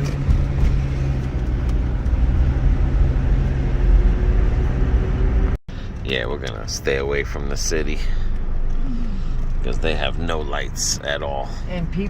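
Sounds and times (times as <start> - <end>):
car engine low hum: 0.0 - 12.0
road noise low rumble: 0.0 - 12.0.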